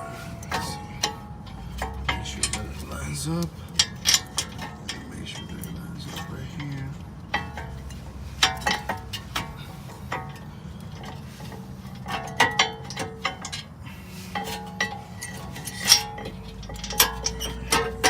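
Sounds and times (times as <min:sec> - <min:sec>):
metallic clinks and knocks: 0:00.0 - 0:18.0.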